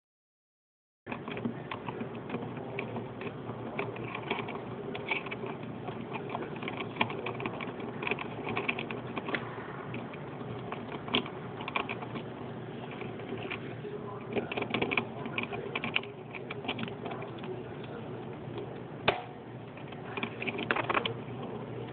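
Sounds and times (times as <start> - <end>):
parrot beak chewing plastic: 1.1 - 19.2.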